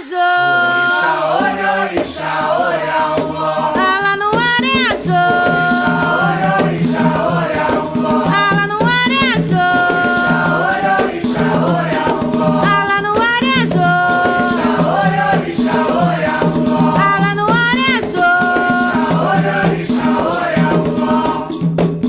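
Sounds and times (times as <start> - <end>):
drum beat: 0.6 - 22.0.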